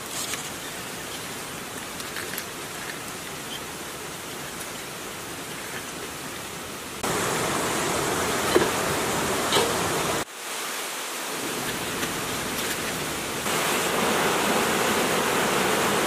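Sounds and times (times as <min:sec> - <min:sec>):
water hissing outdoors: 0:00.0 - 0:16.0.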